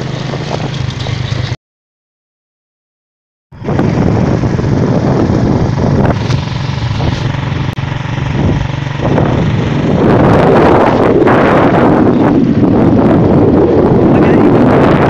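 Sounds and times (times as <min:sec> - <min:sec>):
motorcycle engine running: 0:00.0 - 0:01.6, 0:03.6 - 0:15.0
wind noise on microphone: 0:00.0 - 0:01.6, 0:03.5 - 0:15.0.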